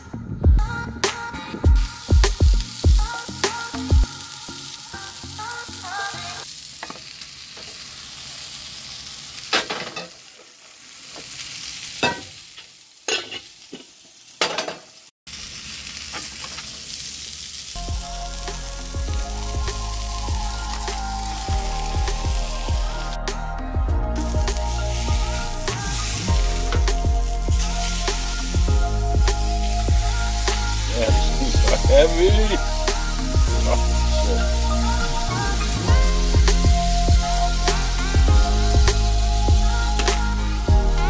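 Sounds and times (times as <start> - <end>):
patties sizzling in a pan: 1.8 - 23.2, 24.2 - 41.0.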